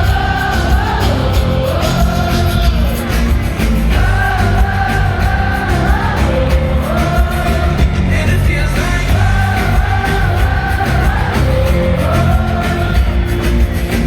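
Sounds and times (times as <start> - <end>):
pop-rock music with bass: 0.0 - 14.0
wordless sung vocal hook: 0.0 - 14.0.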